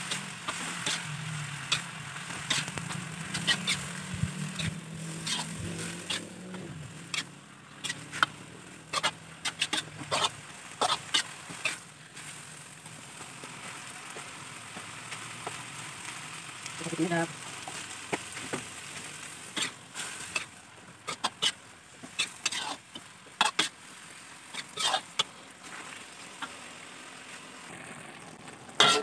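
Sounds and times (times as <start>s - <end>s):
metal spatula scraping wok: 0.0s - 28.0s, 28.7s - 29.0s
food sizzling: 0.0s - 29.0s.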